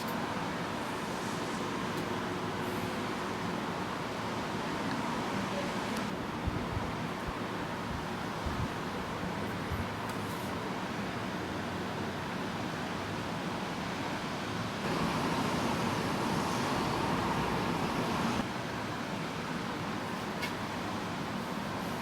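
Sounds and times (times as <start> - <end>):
steady rain hiss: 0.0 - 9.4, 10.0 - 22.0.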